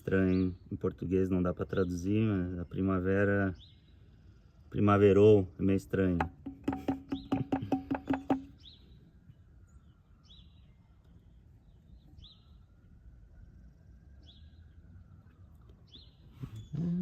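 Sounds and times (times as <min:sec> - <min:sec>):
background hum: 0:00.0 - 0:17.0.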